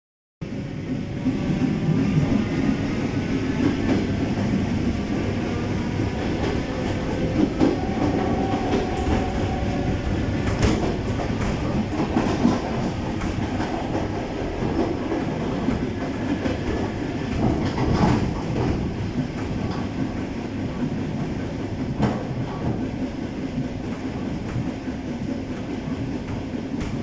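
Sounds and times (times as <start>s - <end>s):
train wheels rumbling on rails: 0.4s - 27.0s.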